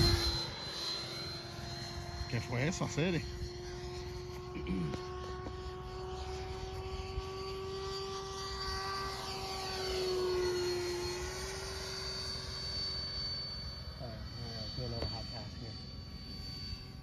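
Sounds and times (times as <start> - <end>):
model jet ducted fan humming: 0.0 - 17.0.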